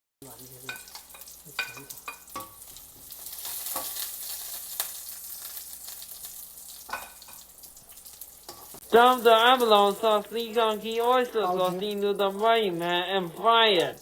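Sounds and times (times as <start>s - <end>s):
food sizzling in oil: 0.2s - 14.0s.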